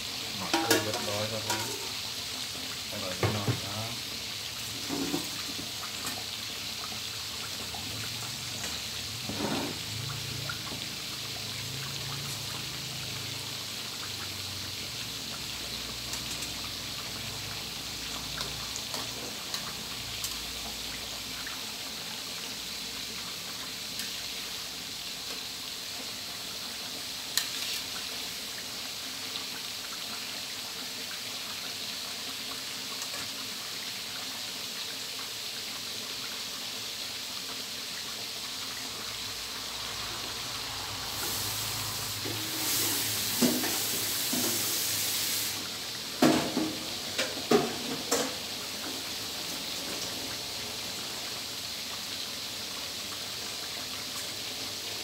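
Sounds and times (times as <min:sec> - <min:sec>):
deep-frying sizzle with pops: 0:00.0 - 0:55.0.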